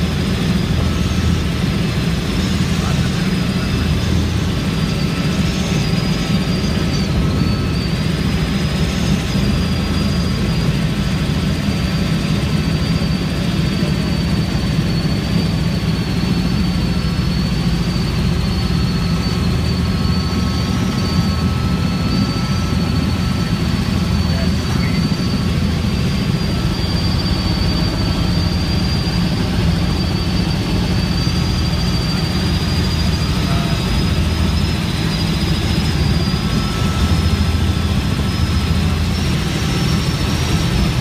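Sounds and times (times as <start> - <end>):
helicopter rotor beat: 0.0 - 41.0
high turbine whine: 0.0 - 41.0.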